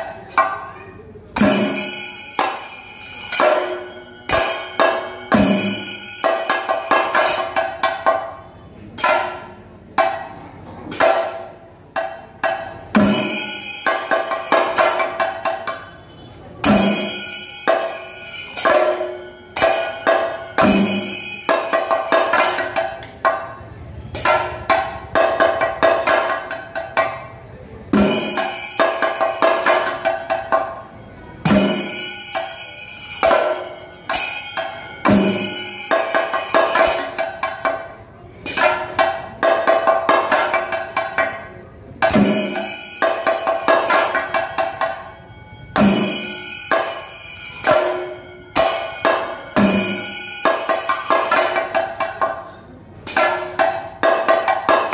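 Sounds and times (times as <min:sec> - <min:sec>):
hand cymbals clashing: 0:00.0 - 0:09.7, 0:10.8 - 0:23.3, 0:27.9 - 0:54.9
drums beaten with sticks: 0:00.0 - 0:54.9.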